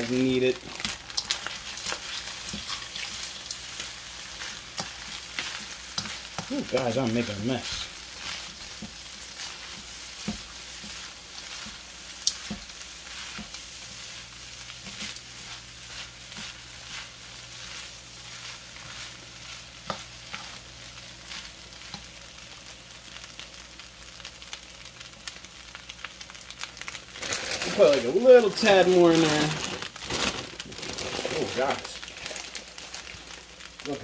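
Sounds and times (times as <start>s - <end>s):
fried rice sizzling in a wok: 0.0s - 34.0s.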